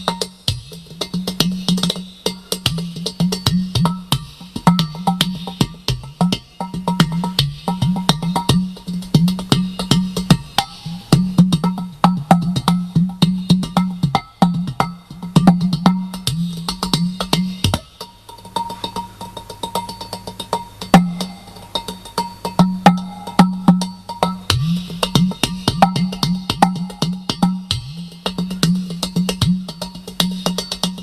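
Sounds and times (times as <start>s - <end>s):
udu clay pot drum: 0.0s - 31.0s.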